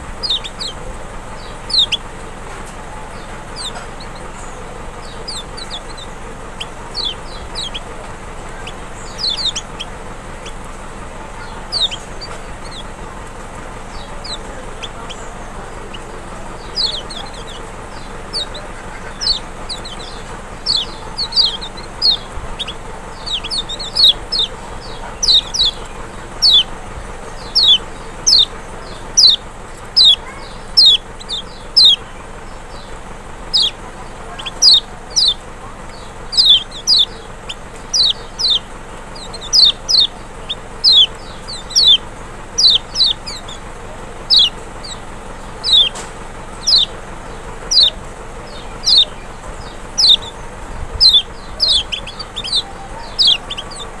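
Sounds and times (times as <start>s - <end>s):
bird calling high sliding notes: 0.0s - 2.2s, 2.8s - 54.0s.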